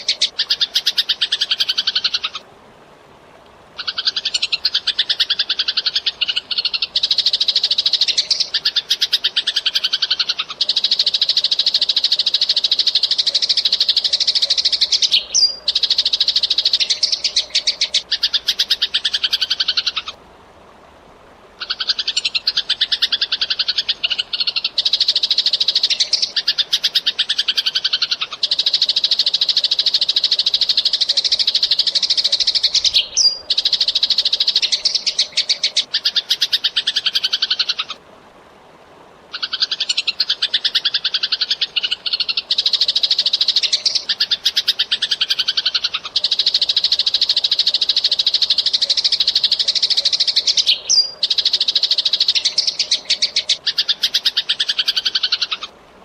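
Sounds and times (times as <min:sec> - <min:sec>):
sparrows chirping: 0:03.8 - 0:20.1, 0:21.6 - 0:37.8, 0:39.4 - 0:55.6.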